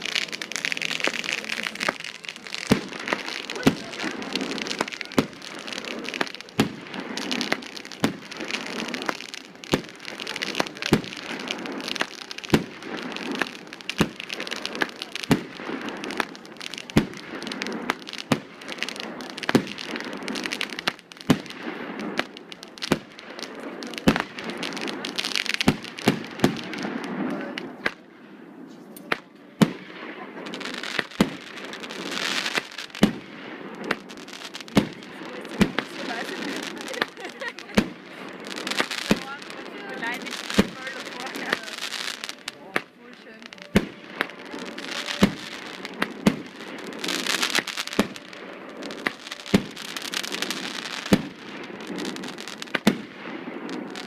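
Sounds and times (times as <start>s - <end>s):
continuous hiss: 0.0s - 54.0s
firework bangs: 0.0s - 54.0s.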